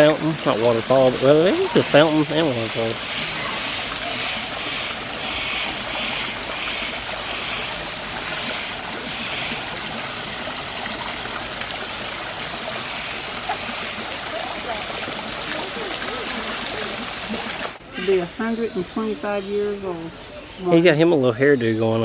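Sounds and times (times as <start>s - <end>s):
fountain splashing and trickling: 0.0s - 17.8s.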